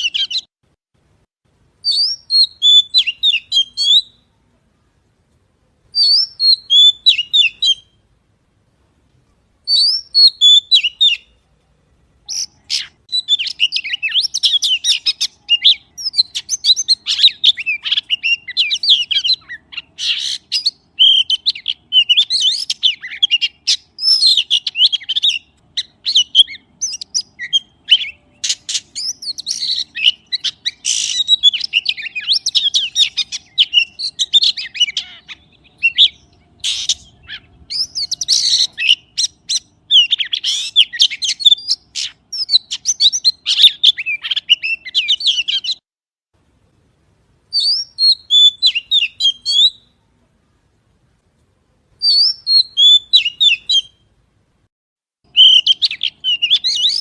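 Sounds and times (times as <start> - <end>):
magpie singing: 0.0 - 0.5, 1.8 - 4.3, 5.9 - 8.0, 9.7 - 11.4, 12.2 - 45.8, 47.5 - 50.0, 52.0 - 54.0, 55.3 - 57.0.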